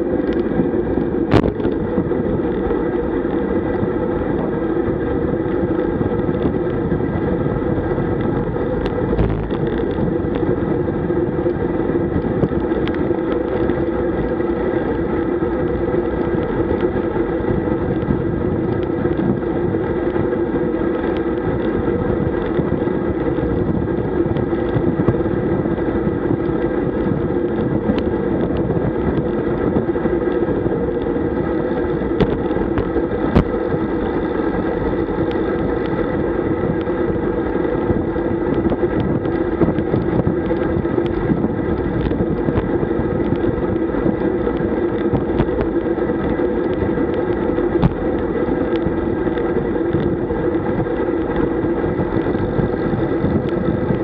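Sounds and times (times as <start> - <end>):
tyres rumbling on asphalt: 0.0 - 54.0
wind buffeting: 0.0 - 54.0.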